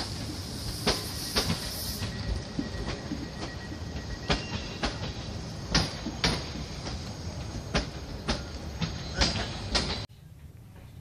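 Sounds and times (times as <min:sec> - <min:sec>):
train wheels knocking on rail joints: 0:00.0 - 0:10.1
train running rumble: 0:00.0 - 0:11.0.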